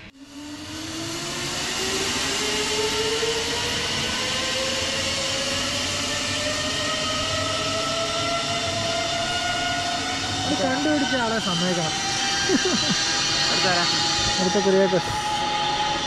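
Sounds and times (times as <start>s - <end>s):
rising pulley whine: 0.0s - 16.0s
zipline pulleys rolling on cable: 0.2s - 16.0s.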